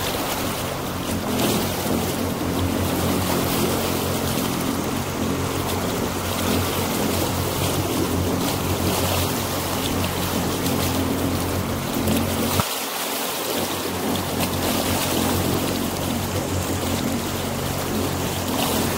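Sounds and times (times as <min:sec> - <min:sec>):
motorboat engine hum: 0:00.0 - 0:18.9
wind and water rushing: 0:00.0 - 0:18.9.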